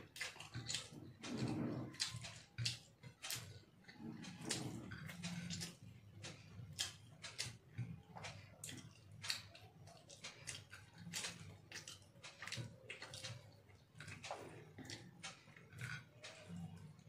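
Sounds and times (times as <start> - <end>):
chewing and lip-smacking: 0.0 - 17.0.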